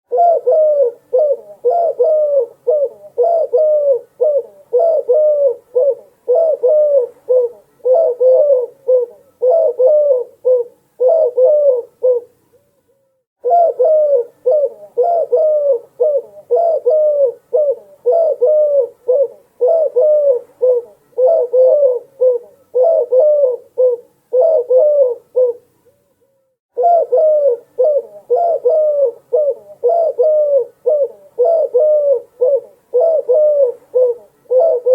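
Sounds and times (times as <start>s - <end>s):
dove cooing: 0.1s - 12.4s, 13.4s - 26.0s, 26.7s - 34.9s.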